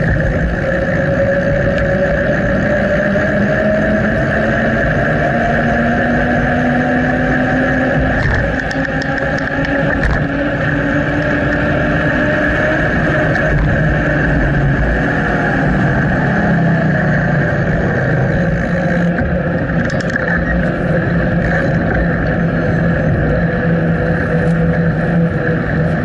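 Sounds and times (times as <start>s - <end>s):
bicycle ride noise: 0.0s - 26.0s
low wavering hum: 0.0s - 26.0s.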